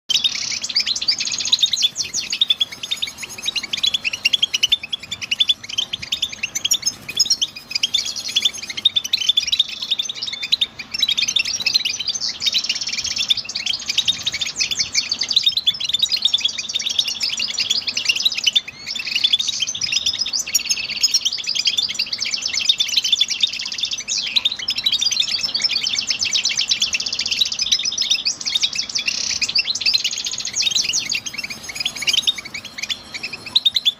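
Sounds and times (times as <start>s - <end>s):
goldfinch twittering song: 0.1s - 33.9s.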